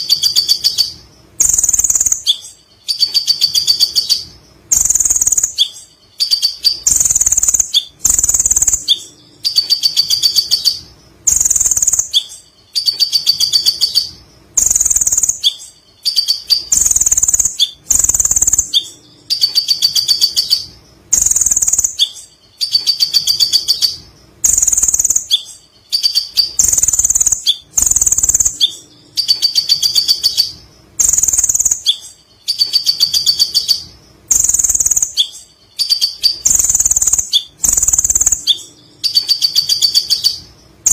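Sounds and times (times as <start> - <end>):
sunbird chirping and trilling: 0.0 - 40.9.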